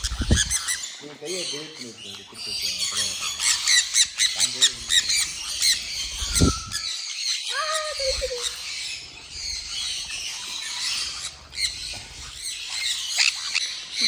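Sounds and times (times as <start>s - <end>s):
birds chirping and squawking: 0.0s - 14.0s.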